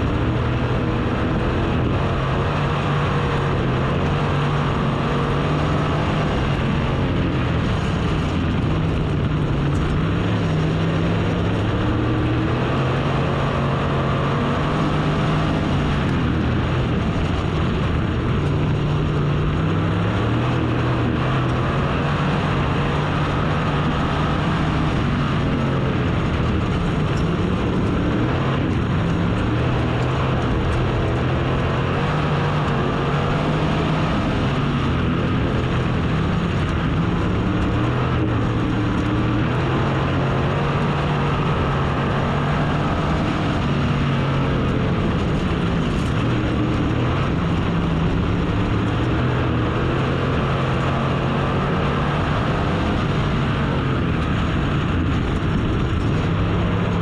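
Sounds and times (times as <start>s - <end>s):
race car engine revving: 0.0s - 57.0s
tyre and wind noise: 0.0s - 57.0s.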